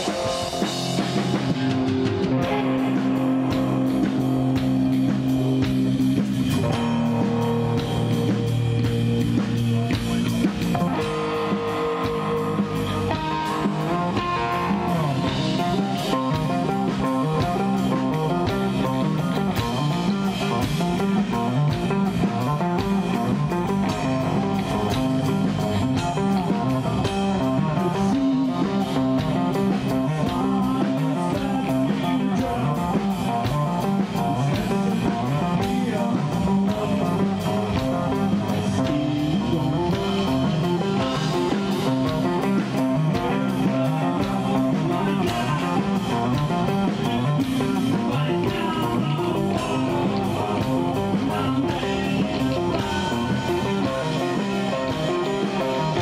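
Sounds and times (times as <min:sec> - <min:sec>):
bass guitar: 0:00.0 - 0:56.0
distorted electric guitar: 0:00.0 - 0:56.0
drum beat with cymbals: 0:00.0 - 0:56.0.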